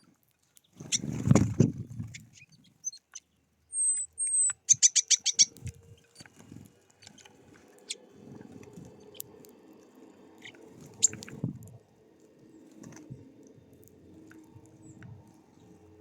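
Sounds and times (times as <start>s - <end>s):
birds pecking and rustling in seed: 0.0s - 16.0s
small birds chirping: 0.0s - 16.0s.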